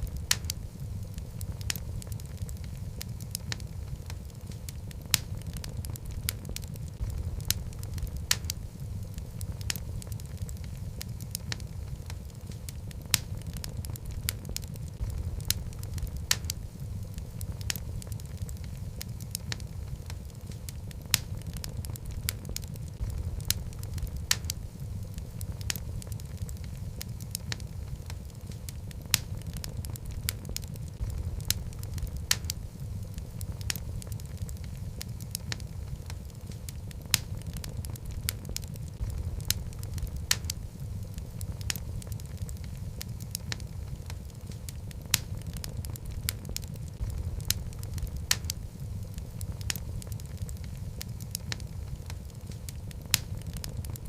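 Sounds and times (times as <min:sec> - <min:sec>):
fire rumbling: 0:00.0 - 0:54.0
logs crackling and popping: 0:00.0 - 0:54.0.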